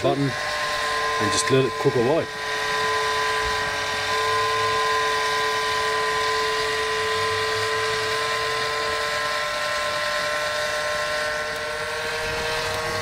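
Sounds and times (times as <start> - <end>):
gas barbecue hissing: 0.0 - 13.0
rotisserie motor whining: 0.0 - 13.0.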